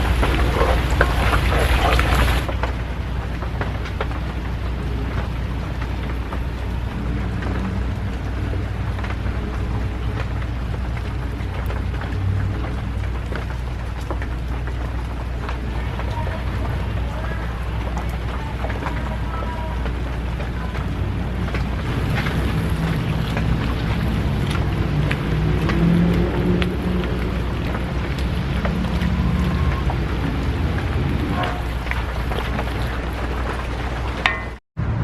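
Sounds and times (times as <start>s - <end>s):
raindrops ticking on a surface: 0.0s - 34.6s
low rumble: 0.0s - 35.0s
rain falling: 0.0s - 35.0s.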